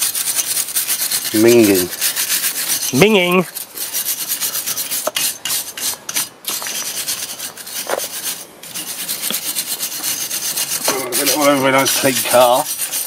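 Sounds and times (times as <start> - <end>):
metal tool scraping wheel hub: 0.0 - 13.0.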